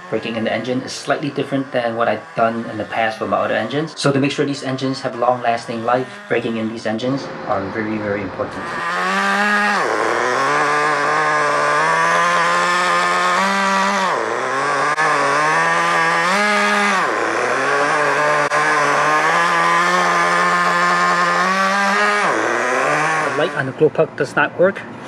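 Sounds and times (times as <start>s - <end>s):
nitro engine at high revs: 0.0s - 25.0s.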